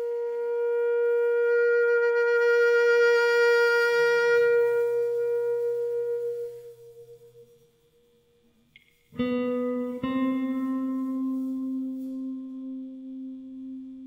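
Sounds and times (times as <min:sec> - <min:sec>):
saxophone long note: 0:00.0 - 0:07.9, 0:09.2 - 0:14.0.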